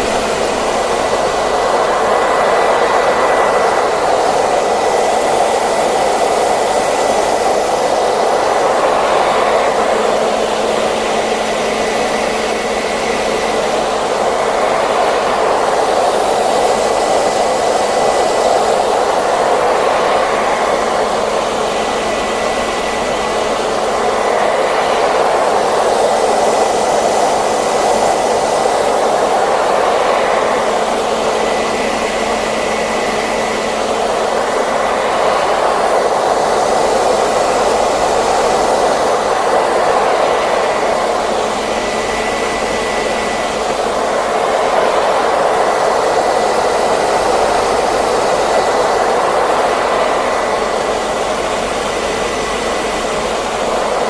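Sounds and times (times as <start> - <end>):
hairdryer blowing: 0.0 - 54.0
motor whine: 0.0 - 54.0.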